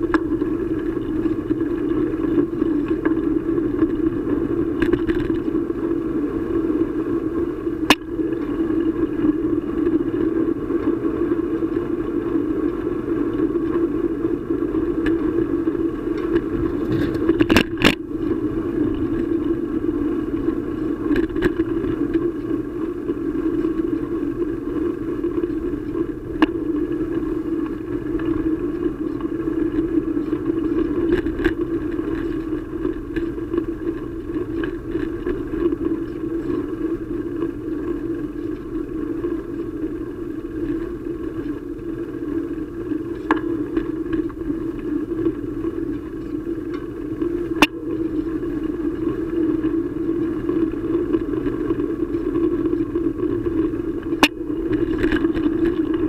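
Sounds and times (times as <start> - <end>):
bicycle clicks and rattles: 0.0 - 56.0
rolling road noise: 0.0 - 56.0.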